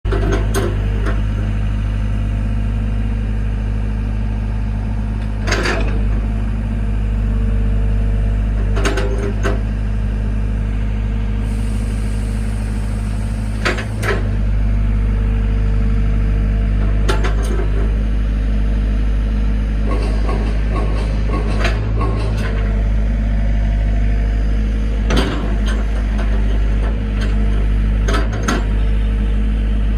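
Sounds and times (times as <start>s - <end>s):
excavator diesel engine droning: 0.1s - 29.9s.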